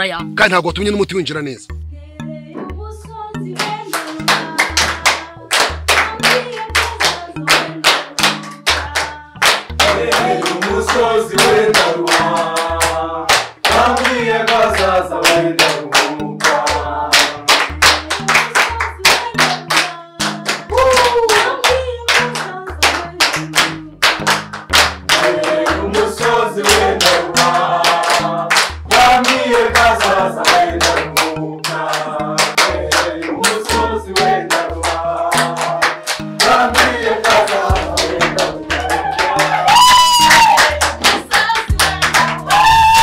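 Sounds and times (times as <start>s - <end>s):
backing music with bass line: 0.0s - 43.0s
group singing: 2.2s - 43.0s
rhythmic hand clapping: 2.5s - 43.0s.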